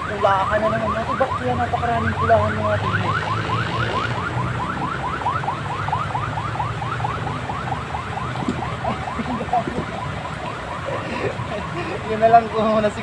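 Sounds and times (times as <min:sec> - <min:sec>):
car alarm chirping: 0:00.0 - 0:12.0.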